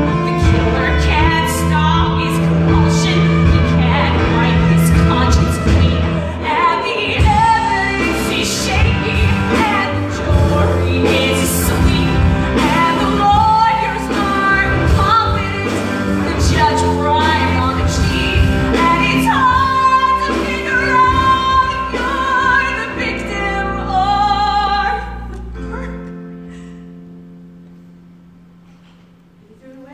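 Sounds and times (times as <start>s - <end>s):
woman singing with vibrato: 0.0s - 25.9s
instrumental accompaniment: 0.0s - 29.8s.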